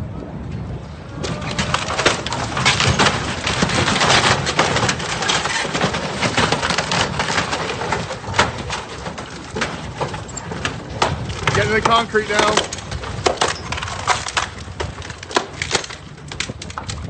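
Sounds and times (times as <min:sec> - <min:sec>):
steady low rumble: 0:00.0 - 0:17.0
wood cracking and splintering: 0:01.2 - 0:17.0.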